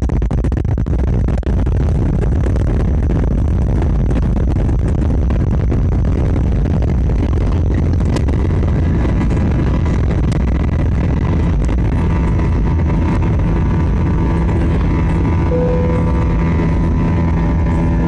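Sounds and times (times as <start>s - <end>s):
jet engine rumble in cabin: 0.0s - 18.0s
steady engine tones: 1.9s - 18.0s.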